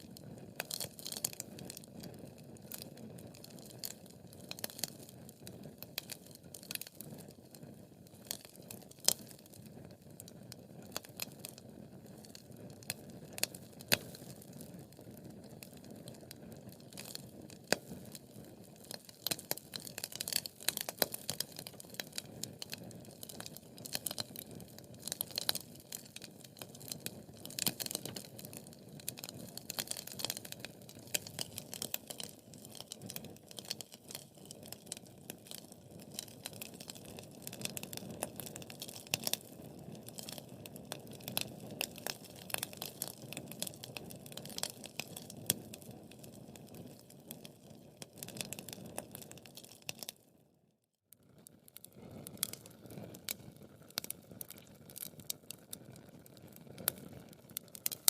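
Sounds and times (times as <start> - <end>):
rumble of flames: 0.0 - 50.2, 51.2 - 58.0
wood fire crackling and popping: 0.0 - 50.3, 51.1 - 58.0.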